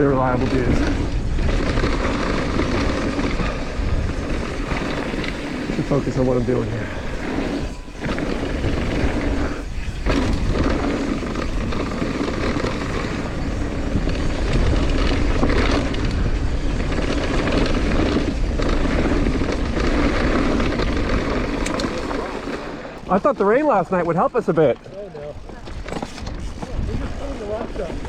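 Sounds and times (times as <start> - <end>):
wind on microphone: 0.0 - 23.0, 25.2 - 28.0
bike tyres rattling over dirt: 0.0 - 28.0.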